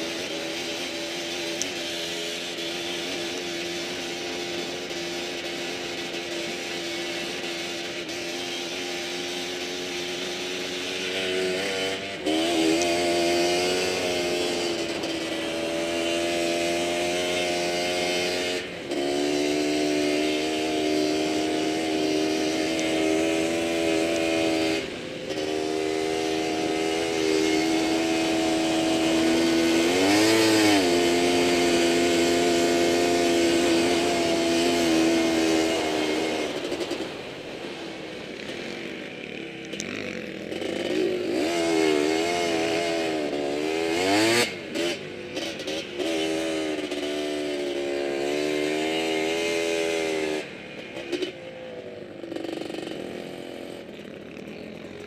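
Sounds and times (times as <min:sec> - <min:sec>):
quad bike engine under load: 0:00.0 - 0:55.0.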